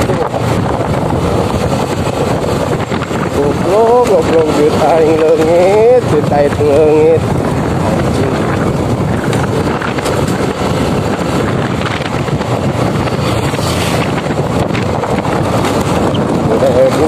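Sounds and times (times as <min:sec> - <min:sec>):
motorcycle engine: 0:00.0 - 0:17.0
wind rushing over microphone: 0:00.0 - 0:17.0.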